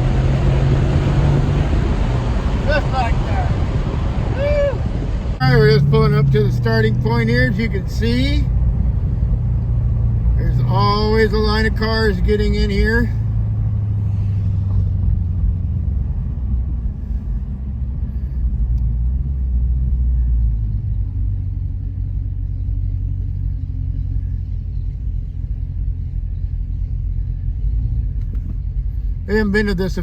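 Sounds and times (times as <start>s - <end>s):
car engine idling rumble: 0.0s - 30.0s.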